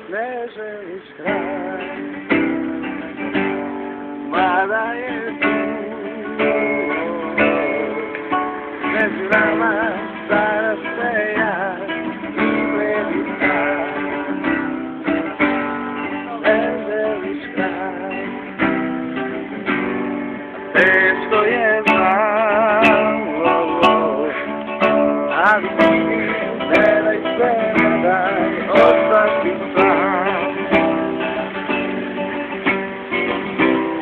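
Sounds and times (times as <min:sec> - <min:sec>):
person singing with vibrato: 0:00.0 - 0:03.2, 0:04.2 - 0:19.5, 0:20.5 - 0:32.1
acoustic guitar strumming: 0:00.0 - 0:34.0.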